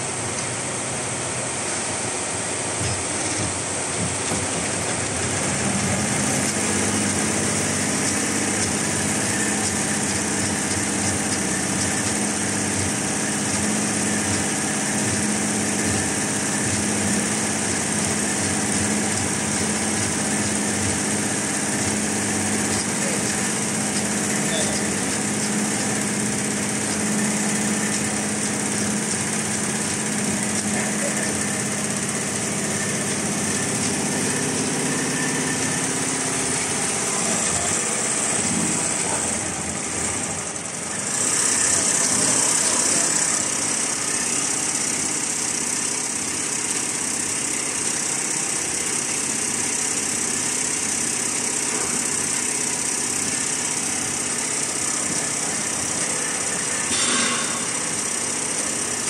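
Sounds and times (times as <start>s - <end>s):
embroidery machine whirring: 0.0s - 59.0s.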